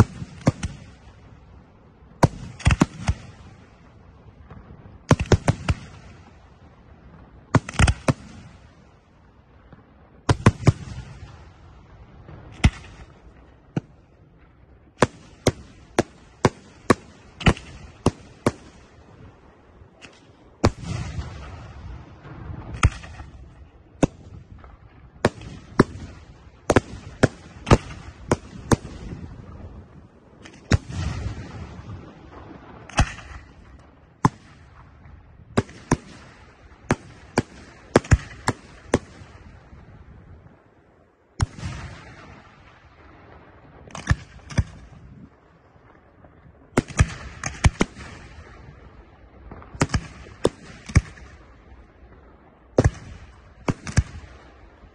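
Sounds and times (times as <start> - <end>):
heavy booms with rolling rumble: 0.0 - 40.8, 41.4 - 54.9
fireworks bangs: 0.0 - 54.9.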